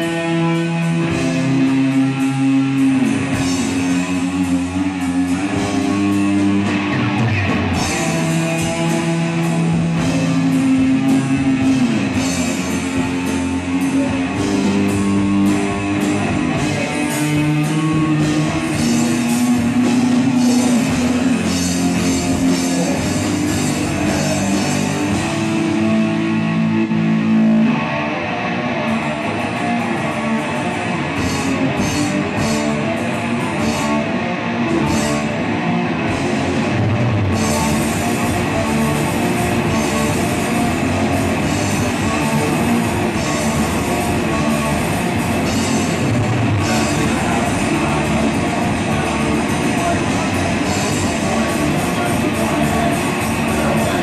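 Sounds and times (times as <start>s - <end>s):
bass guitar: 0.0s - 54.0s
distorted electric guitar: 0.0s - 54.0s
drum kit: 0.0s - 54.0s.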